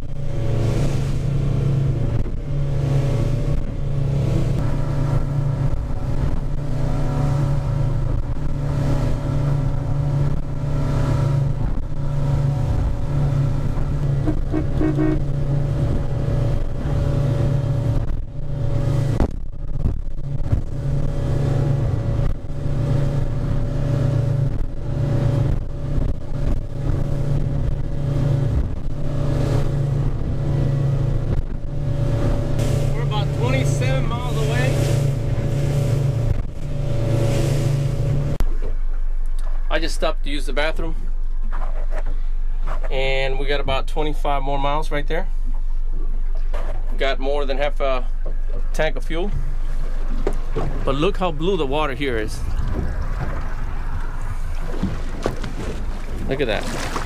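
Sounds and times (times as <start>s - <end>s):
boat engine running: 0.0s - 57.0s
water rushing along hull: 0.0s - 57.0s.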